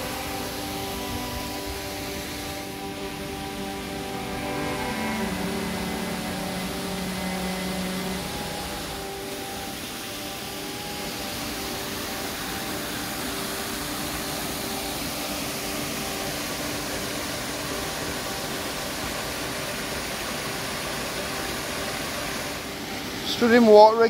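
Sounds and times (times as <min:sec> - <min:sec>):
stream flowing over rocks: 0:00.0 - 0:24.0.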